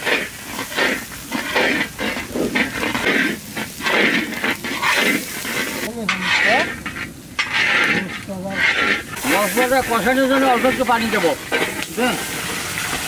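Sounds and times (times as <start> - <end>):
wooden spatula scraping iron pan: 0.0 - 13.0.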